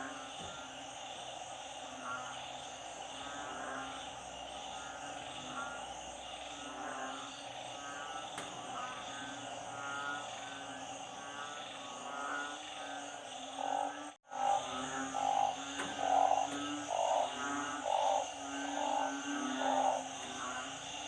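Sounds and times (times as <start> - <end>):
chorus of frogs croaking: 0.0 - 21.0
pulsed frog call: 0.0 - 21.0.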